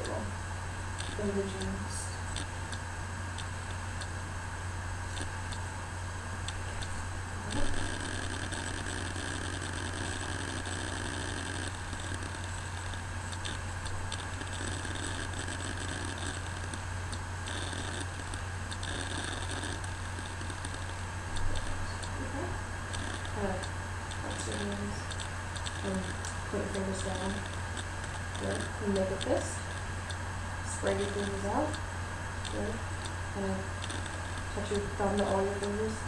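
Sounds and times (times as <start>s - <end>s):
low room hum: 0.0s - 36.0s.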